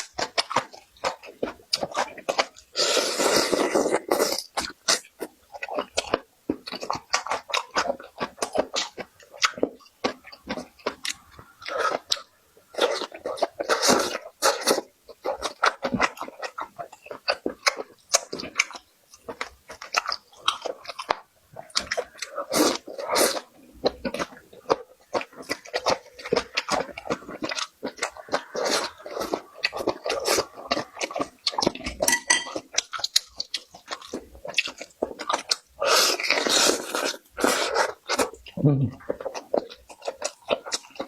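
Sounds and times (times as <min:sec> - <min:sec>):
chewing and biting food: 0:00.0 - 0:41.0.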